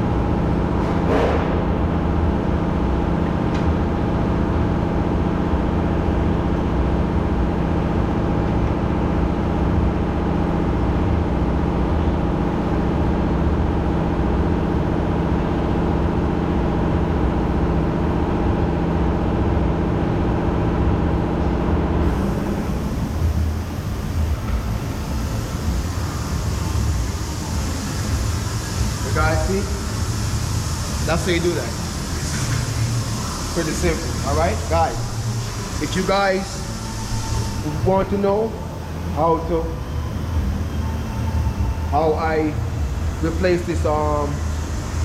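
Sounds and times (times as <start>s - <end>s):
engine-like drone: 0.0s - 45.0s.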